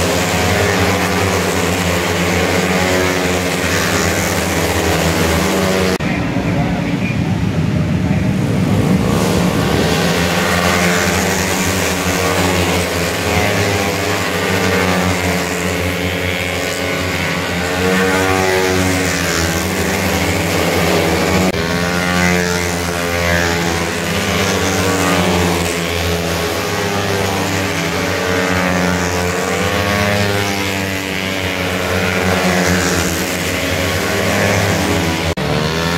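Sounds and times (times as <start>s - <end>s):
racing motorcycles revving: 0.0s - 35.9s.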